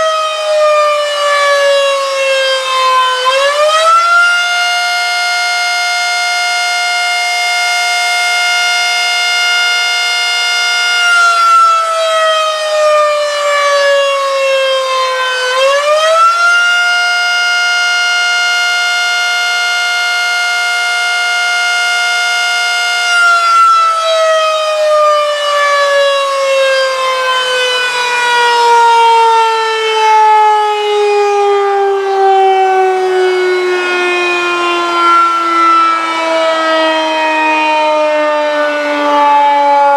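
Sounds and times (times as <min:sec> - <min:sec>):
fire siren wailing: 0:00.0 - 0:39.9.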